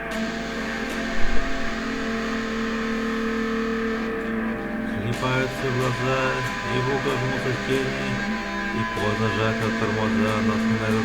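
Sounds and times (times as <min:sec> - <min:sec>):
guitar chord ringing: 0:00.0 - 0:11.0.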